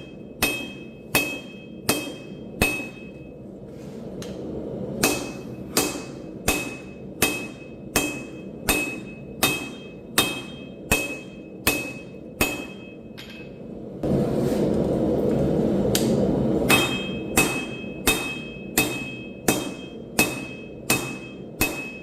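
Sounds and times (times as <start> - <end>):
hammer striking hot steel on anvil: 0.0 - 3.5, 4.2 - 13.8, 15.9 - 22.0.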